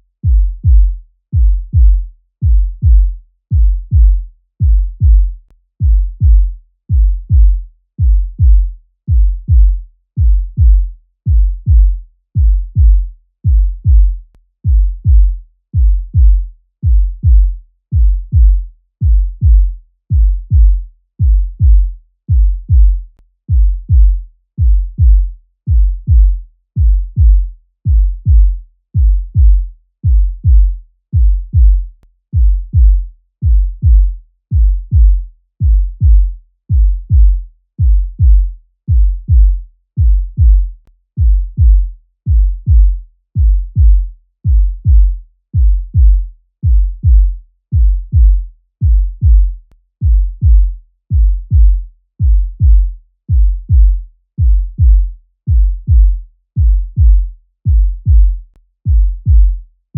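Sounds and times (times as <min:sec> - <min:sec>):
heartbeat thumps: 0:00.2 - 0:59.6.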